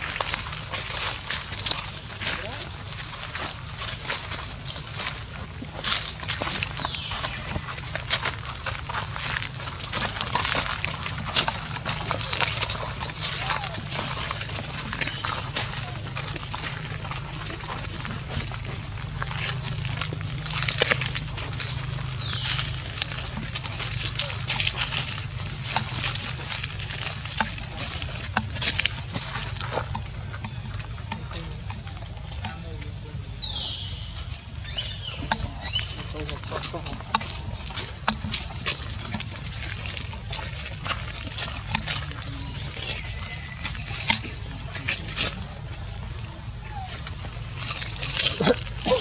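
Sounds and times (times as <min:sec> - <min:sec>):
dry leaves crunching underfoot: 0:00.0 - 0:49.0
steady low hum: 0:00.0 - 0:49.0.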